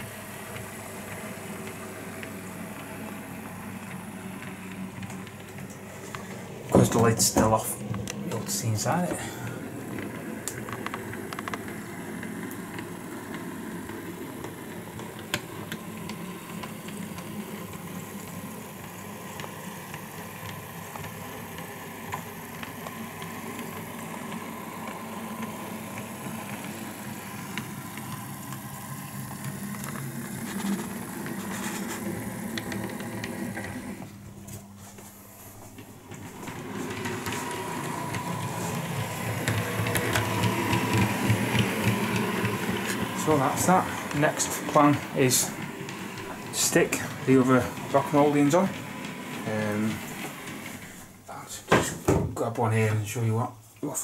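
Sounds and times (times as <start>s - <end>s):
model train motor humming: 0.0s - 34.1s, 36.3s - 51.1s.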